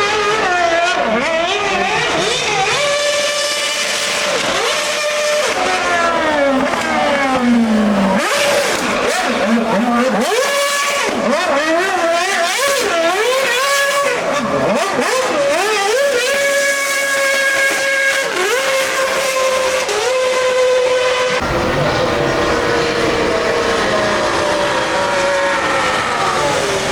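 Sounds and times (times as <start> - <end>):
race car engine revving: 0.0 - 26.9.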